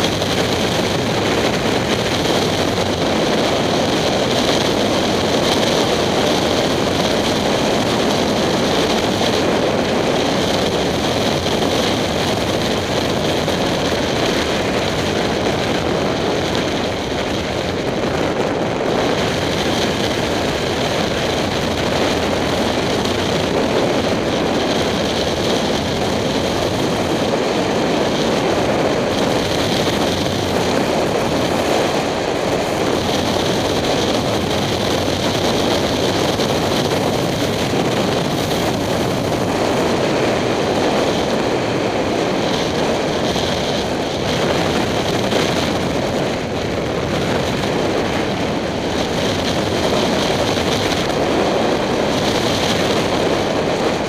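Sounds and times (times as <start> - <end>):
road noise: 0.0 - 54.0
wind rushing on helmet: 0.0 - 54.0.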